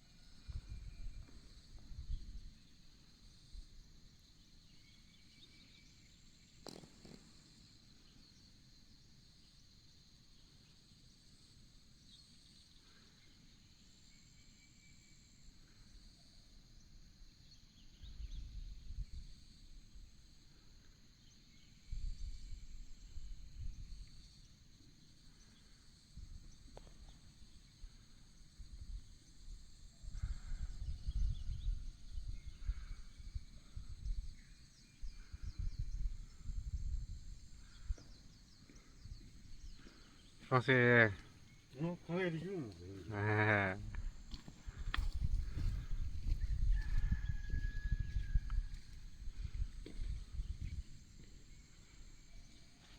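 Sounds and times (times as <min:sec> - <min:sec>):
insect chorus: 0:00.0 - 0:52.9.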